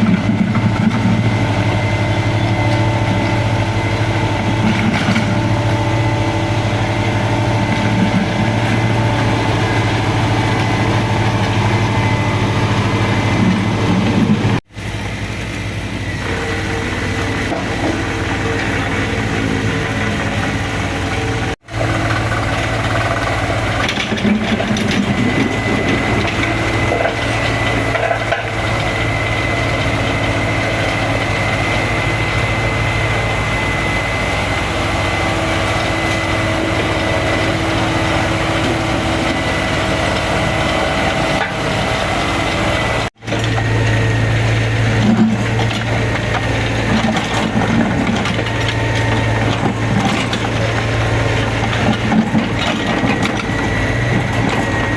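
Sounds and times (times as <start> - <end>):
excavator diesel engine running: 0.0 - 54.9
hydraulic whine: 0.0 - 54.9
road material crunching and cracking: 0.0 - 54.9.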